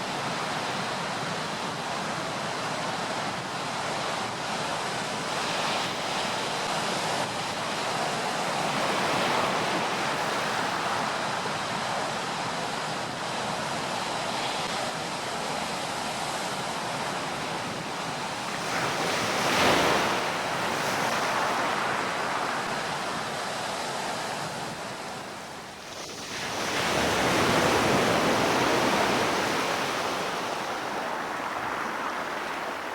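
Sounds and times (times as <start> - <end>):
sea waves washing ashore: 0.0 - 32.9.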